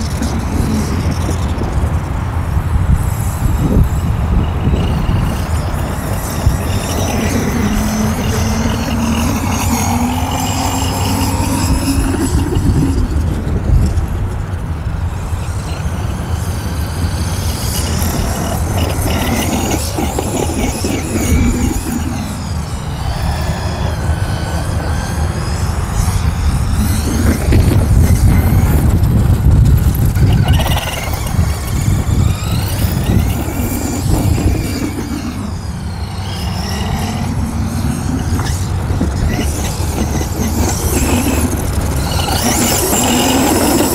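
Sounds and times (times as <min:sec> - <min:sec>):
electric motor whining: 0:00.0 - 0:43.9
steady low rumble: 0:00.0 - 0:43.9.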